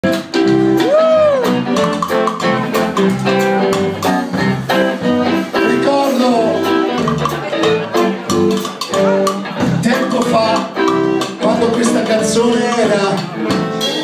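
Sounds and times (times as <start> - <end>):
drum and cymbal hits: 0.0 - 14.0
electric guitar: 0.0 - 14.0.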